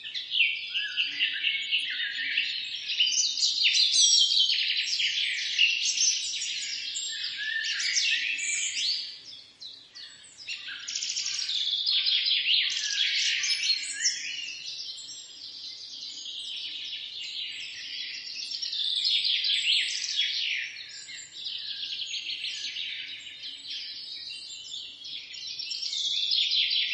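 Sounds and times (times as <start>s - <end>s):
songbirds chirping and trilling: 0.0s - 26.9s.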